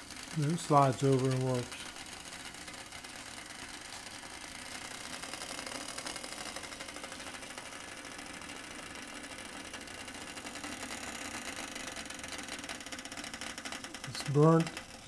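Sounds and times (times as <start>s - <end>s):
burner flame: 0.0s - 15.0s
water boiling in a cup: 0.0s - 15.0s.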